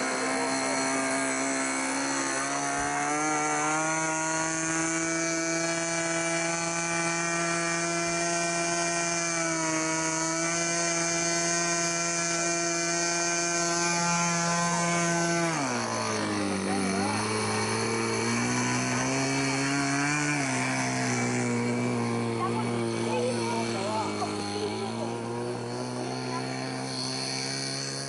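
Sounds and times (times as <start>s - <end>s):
model aircraft engine revving: 0.0s - 28.0s.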